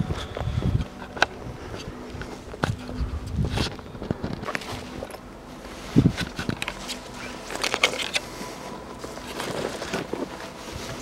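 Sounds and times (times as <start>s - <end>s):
twigs crackling: 0.0s - 11.0s.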